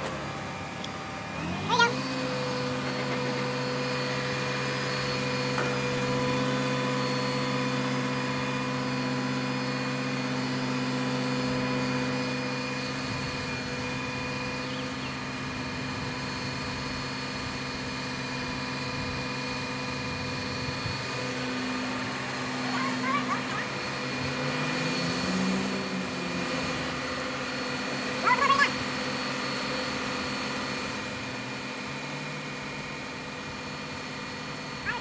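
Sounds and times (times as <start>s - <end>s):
diesel engine high idle: 0.0s - 35.0s
hydraulic whine: 0.0s - 35.0s.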